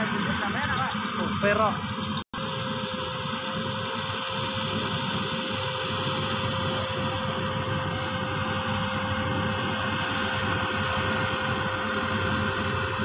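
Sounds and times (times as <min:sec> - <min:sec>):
combine harvester drone: 0:00.0 - 0:13.0
constant machine whine: 0:00.0 - 0:13.0.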